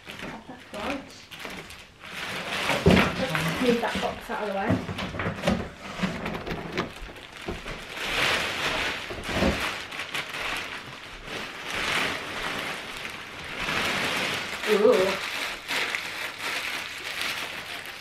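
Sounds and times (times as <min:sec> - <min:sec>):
plastic bag rustling and crinkling: 0:00.0 - 0:18.0.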